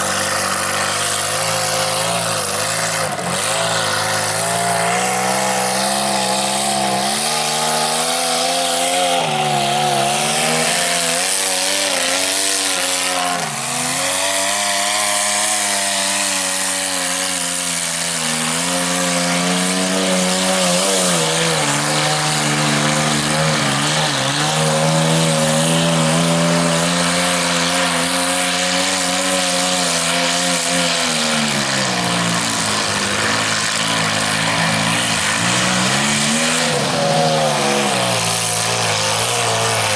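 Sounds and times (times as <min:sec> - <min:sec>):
tires spinning in mud: 0:00.0 - 0:39.9
truck engine revving: 0:00.0 - 0:39.9.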